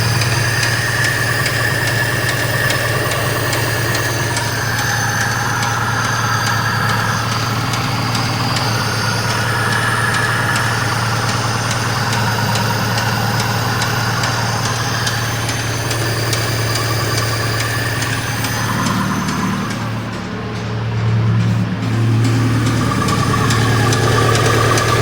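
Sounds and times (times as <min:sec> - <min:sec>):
car engine idling with knock: 0:00.0 - 0:25.0.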